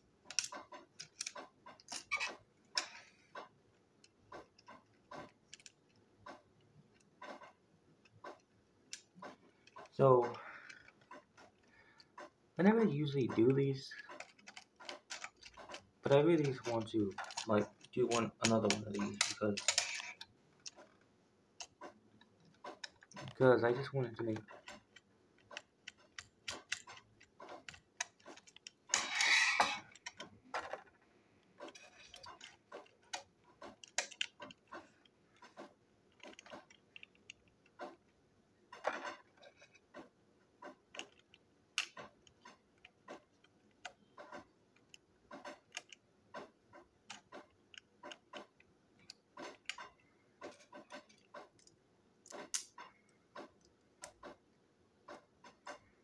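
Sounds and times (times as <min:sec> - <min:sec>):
plastic toy parts clicking: 0:00.2 - 0:21.0, 0:21.6 - 0:38.1, 0:40.7 - 0:54.4.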